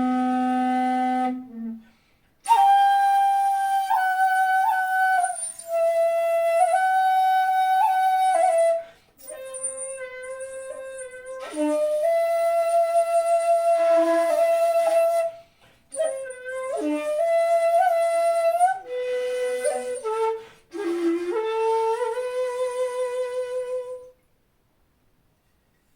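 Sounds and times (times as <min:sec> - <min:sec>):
bamboo flute playing long notes: 0:00.0 - 0:24.2.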